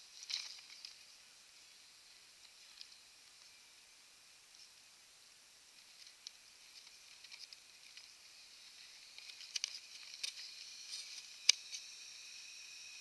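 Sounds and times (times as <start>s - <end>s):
thin steady hiss: 0.0s - 13.0s.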